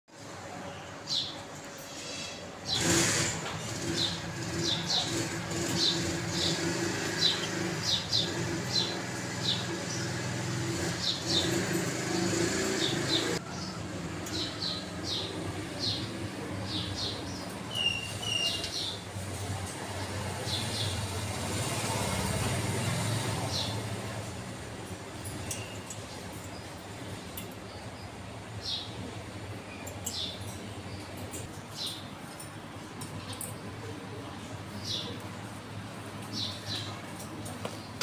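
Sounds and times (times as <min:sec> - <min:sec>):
birds chirping: 0:00.4 - 0:38.0.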